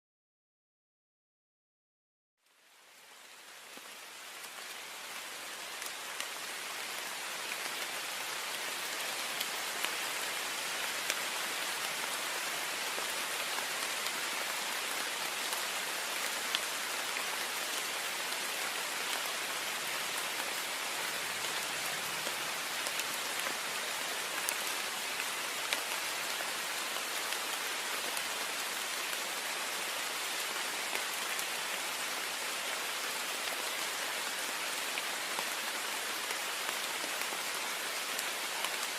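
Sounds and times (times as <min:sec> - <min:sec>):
heavy rain on a window: 0:02.4 - 0:38.9.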